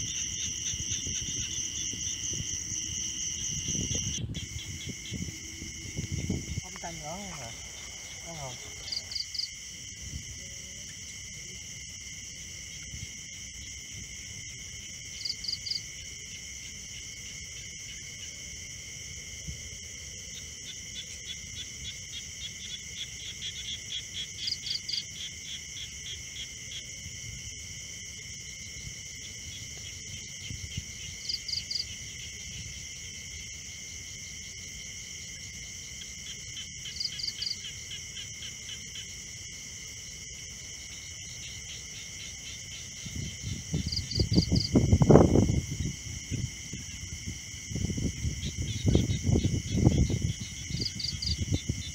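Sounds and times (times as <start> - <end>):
rapid pulsing insect trill: 0.0 - 51.9.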